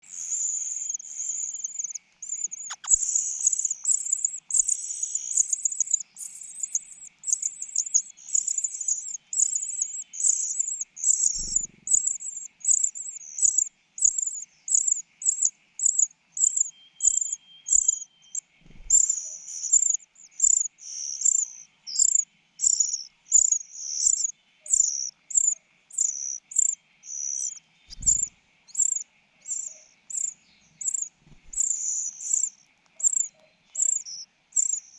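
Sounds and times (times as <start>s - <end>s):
baby birds cheeping: 0.0s - 34.9s.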